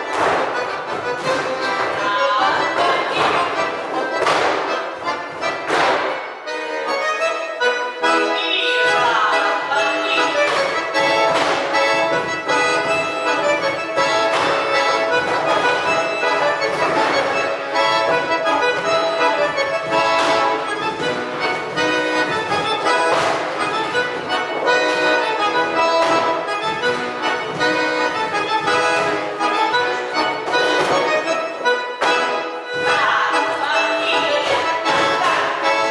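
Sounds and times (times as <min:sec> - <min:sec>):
accordion tune: 0:00.0 - 0:35.9.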